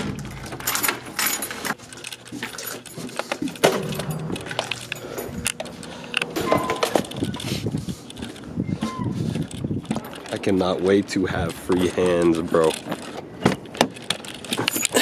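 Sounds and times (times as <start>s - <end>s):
keys jangling: 0.2s - 8.5s, 9.3s - 15.0s.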